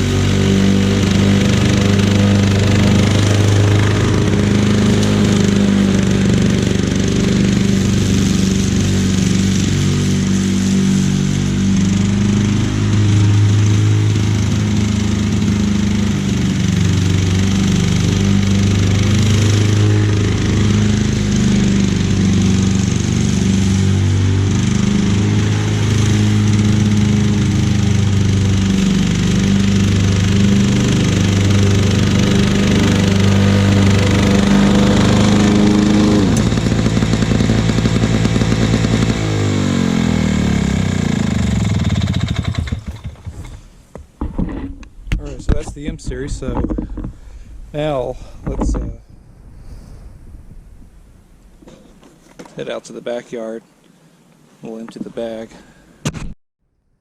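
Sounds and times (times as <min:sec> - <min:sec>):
lawn mower engine cutting grass: 0:00.0 - 0:49.0, 0:50.1 - 0:53.6.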